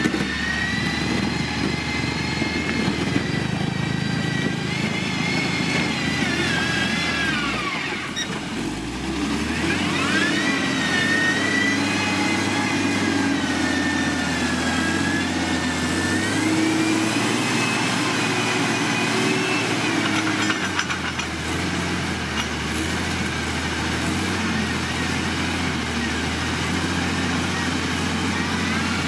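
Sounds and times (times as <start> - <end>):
diesel engine of heavy machinery: 0.0 - 29.0.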